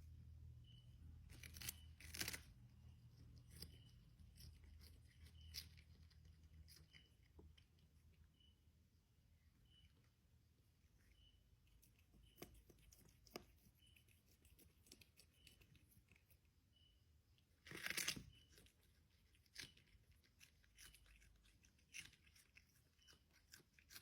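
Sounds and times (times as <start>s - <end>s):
animal chewing and crunching: 1.2s - 8.5s, 10.9s - 16.9s, 17.5s - 24.0s.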